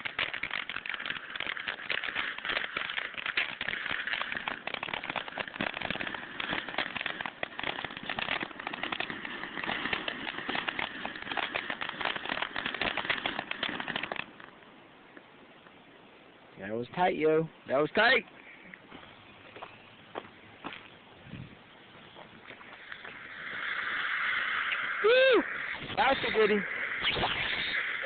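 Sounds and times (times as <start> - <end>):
firework crackling and popping: 0.0 - 15.8, 16.7 - 28.0.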